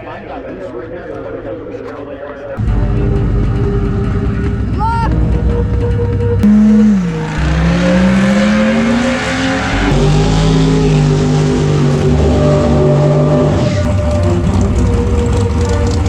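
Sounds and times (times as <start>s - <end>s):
race car engine accelerating: 2.6s - 16.0s.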